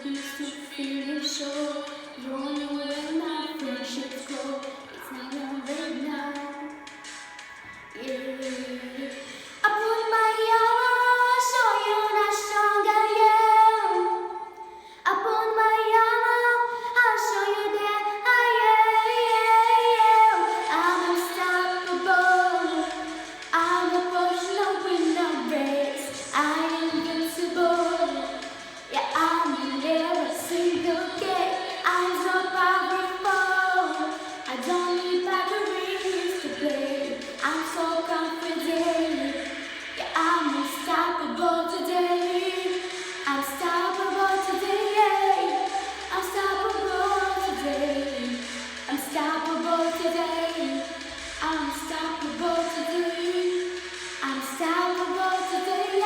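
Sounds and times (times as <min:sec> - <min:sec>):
girl singing: 0:00.0 - 0:07.1, 0:07.9 - 0:56.0.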